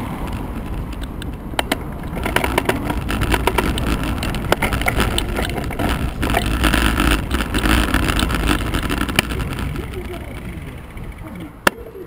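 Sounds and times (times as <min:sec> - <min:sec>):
bike rattles and clicks: 0:00.0 - 0:12.0
wind rushing over microphone: 0:00.0 - 0:12.0.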